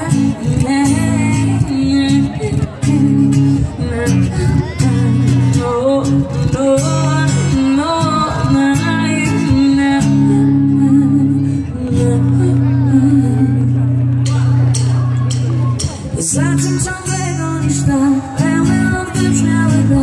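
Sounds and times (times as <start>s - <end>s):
person singing: 0.0s - 14.7s, 15.8s - 20.0s
guitar: 0.0s - 20.0s.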